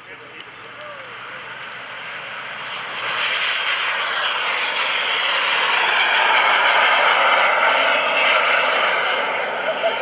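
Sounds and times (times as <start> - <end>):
jet flying past with whine: 0.0 - 10.0.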